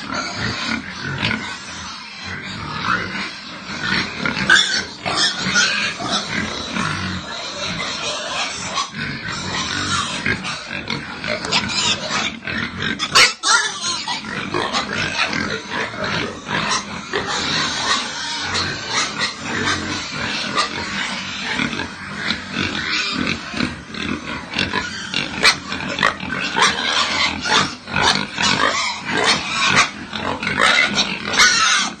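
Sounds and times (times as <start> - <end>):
pigs grunting and squealing: 0.0 - 32.0.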